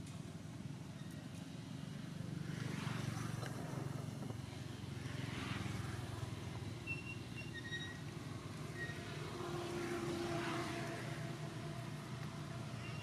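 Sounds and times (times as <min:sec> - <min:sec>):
traffic engine drone: 0:00.0 - 0:13.0.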